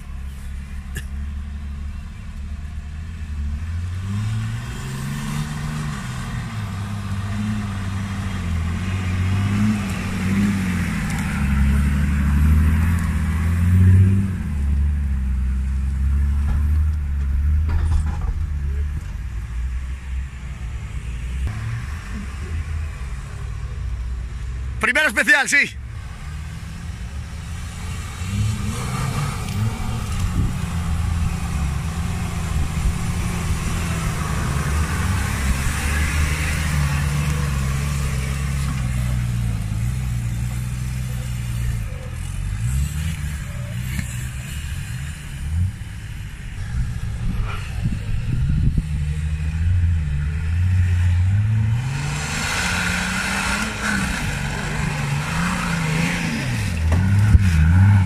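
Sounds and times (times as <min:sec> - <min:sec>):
off-road engine revving: 0:00.0 - 0:19.1, 0:21.2 - 0:58.0.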